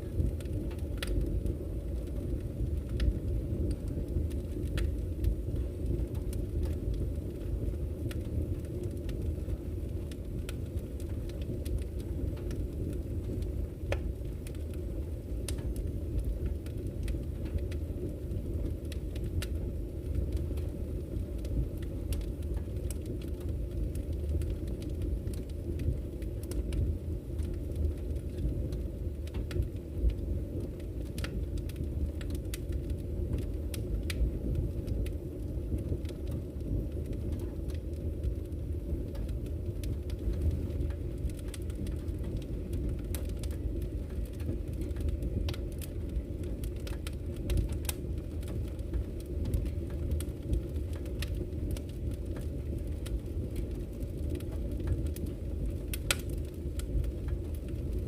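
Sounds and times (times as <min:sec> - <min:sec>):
fire flames roaring: 0:00.0 - 0:58.0
logs crackling and popping: 0:00.0 - 0:58.0.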